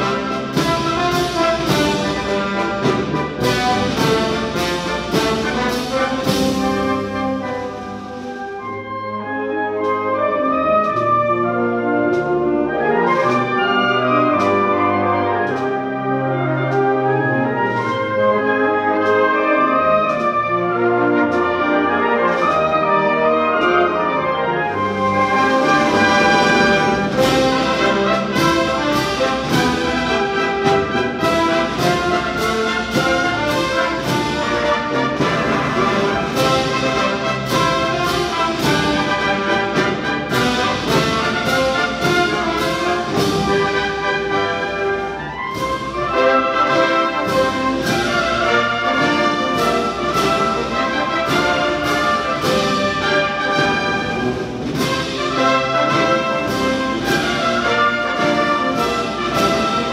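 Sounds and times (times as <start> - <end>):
percussion strokes: 0.0 - 59.9
wind band playing a march: 0.0 - 59.9.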